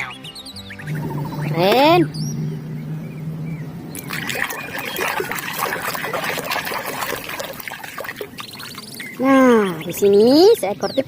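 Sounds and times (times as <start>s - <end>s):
water trickling and splashing: 0.8s - 10.7s.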